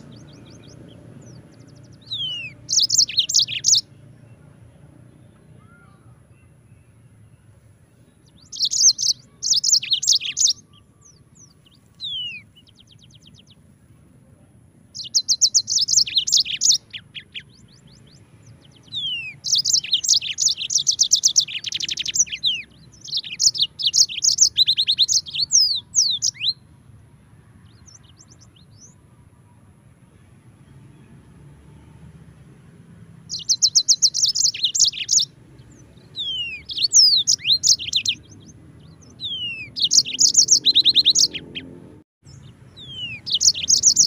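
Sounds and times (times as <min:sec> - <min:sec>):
canary singing trills: 0:00.0 - 0:04.7, 0:05.5 - 0:13.8, 0:14.8 - 0:26.7, 0:27.6 - 0:29.0, 0:33.2 - 0:44.0.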